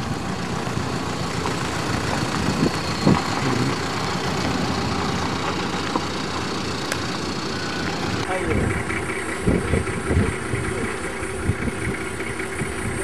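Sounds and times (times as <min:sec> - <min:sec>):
suv engine driving past: 0:00.0 - 0:13.0.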